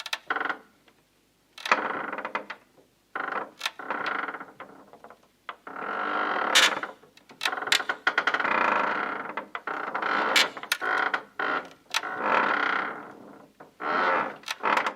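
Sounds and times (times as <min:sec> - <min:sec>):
wood creaking: 0:00.0 - 0:00.7, 0:01.6 - 0:14.9.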